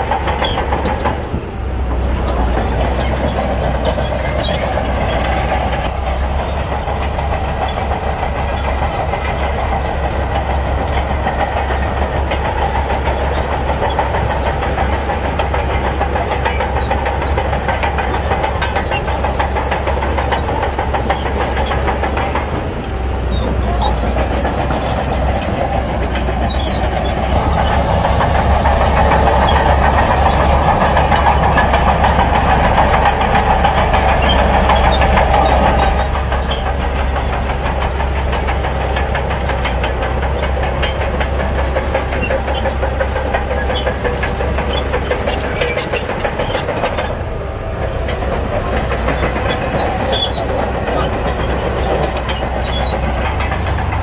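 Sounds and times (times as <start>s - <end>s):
bulldozer diesel engine: 0.0s - 54.0s
steel tracks clattering: 0.0s - 54.0s.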